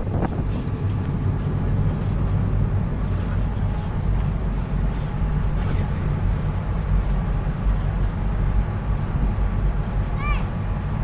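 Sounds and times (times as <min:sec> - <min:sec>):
ferry engines rumbling: 0:00.0 - 0:11.0
wind on open deck: 0:00.0 - 0:11.0.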